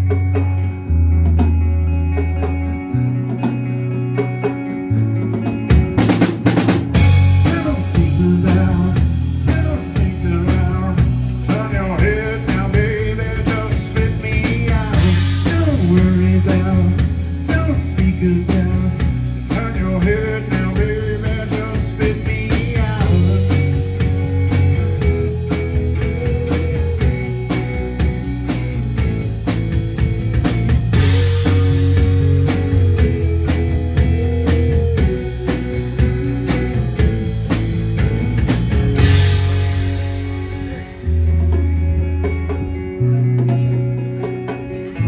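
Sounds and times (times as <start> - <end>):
guitar bending notes: 0.0 - 45.0
live blues-rock band: 0.0 - 45.0.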